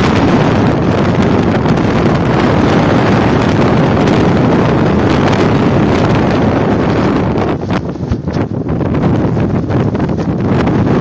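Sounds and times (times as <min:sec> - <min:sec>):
strong wind on microphone: 0:00.0 - 0:11.0.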